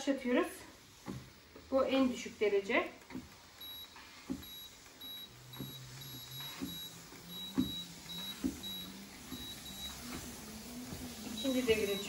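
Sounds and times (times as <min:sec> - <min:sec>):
treadmill motor hum: 0:00.0 - 0:12.0
footsteps on treadmill belt: 0:00.8 - 0:02.2, 0:02.8 - 0:12.0.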